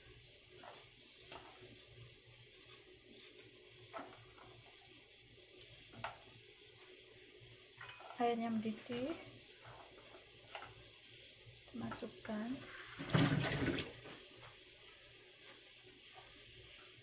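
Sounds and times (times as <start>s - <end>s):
water heating with faint hiss: 0.0s - 17.0s.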